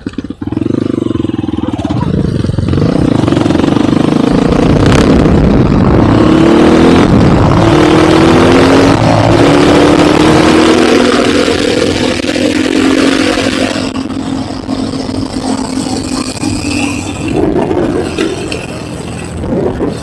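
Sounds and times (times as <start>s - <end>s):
motorcycle engine running: 0.0s - 20.0s
loud rushing noise: 2.2s - 20.0s.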